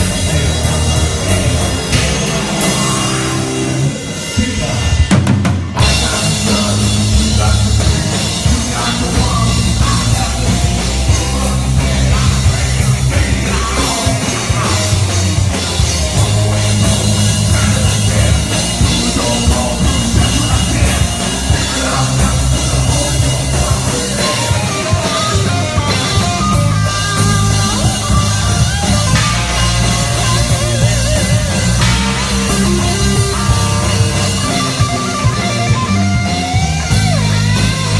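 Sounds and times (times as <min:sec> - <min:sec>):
distorted electric guitar: 0:00.0 - 0:37.9
drum kit beat: 0:00.0 - 0:37.9
rock band playing: 0:00.0 - 0:37.9.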